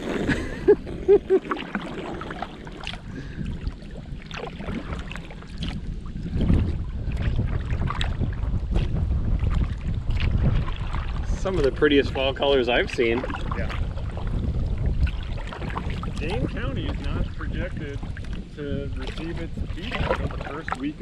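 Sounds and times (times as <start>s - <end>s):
paddle splashes in water: 0.0s - 21.0s
wind buffeting microphone: 0.0s - 21.0s.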